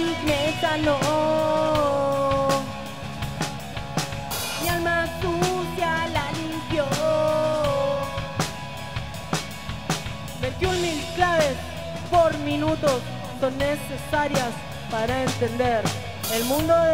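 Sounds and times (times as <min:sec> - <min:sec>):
electric guitars: 0:00.0 - 0:16.9.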